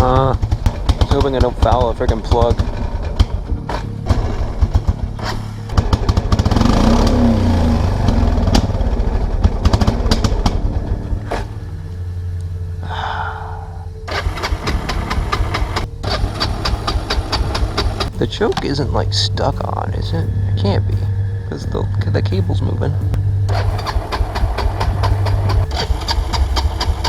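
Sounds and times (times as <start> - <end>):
atv engine running rough: 0.0 - 27.0.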